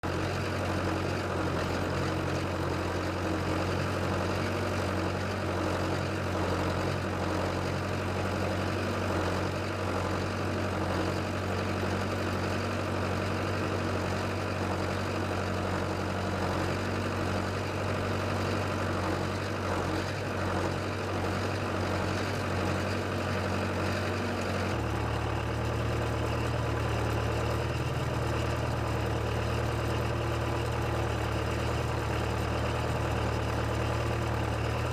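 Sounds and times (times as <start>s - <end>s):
backhoe engine idling: 0.0s - 34.9s.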